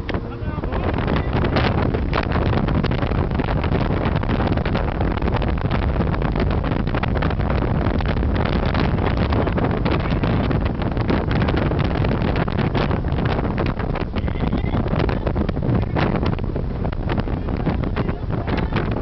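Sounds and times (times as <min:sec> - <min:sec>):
car driving rumble: 0:00.0 - 0:19.0
wind buffeting microphone: 0:00.0 - 0:19.0.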